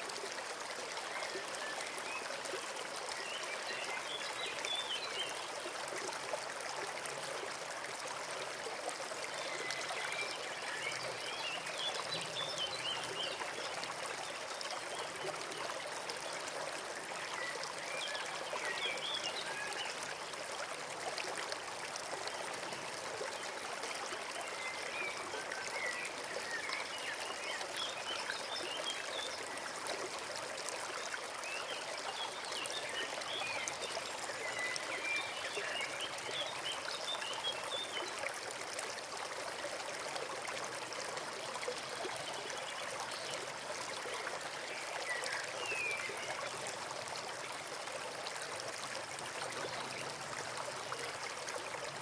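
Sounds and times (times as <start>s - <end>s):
forest stream running: 0.0s - 52.0s.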